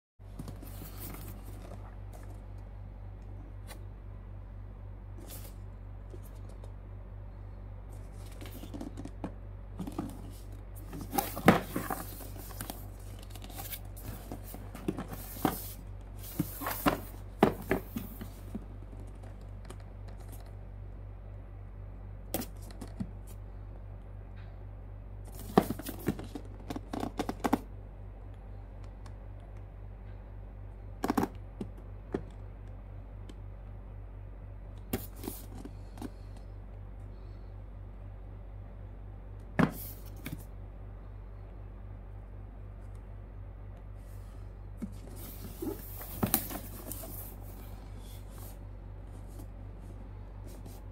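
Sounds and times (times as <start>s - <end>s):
steady low hum: 0.2s - 50.9s.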